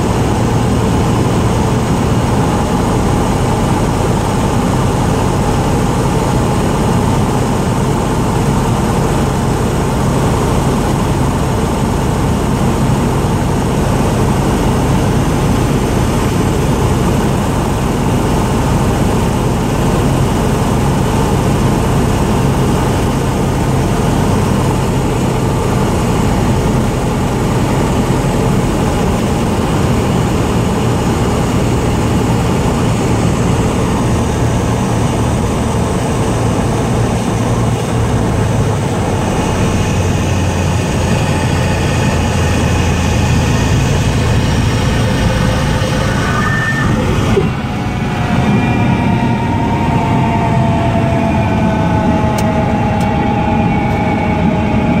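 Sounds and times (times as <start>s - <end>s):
propeller engine droning: 0.0s - 55.0s.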